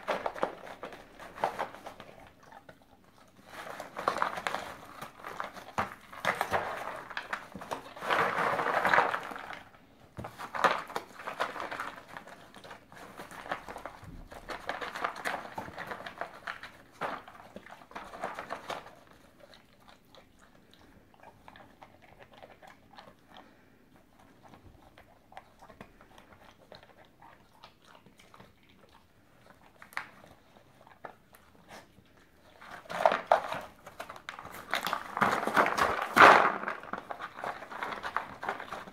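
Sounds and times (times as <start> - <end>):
dog chewing dry treats: 0.0 - 38.9.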